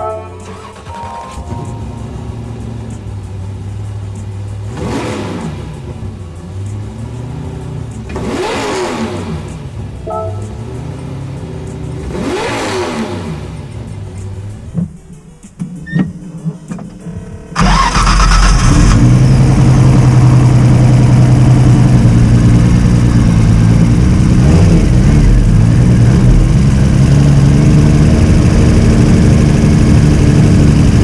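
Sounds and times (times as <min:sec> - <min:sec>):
car engine running: 0:00.4 - 0:31.0.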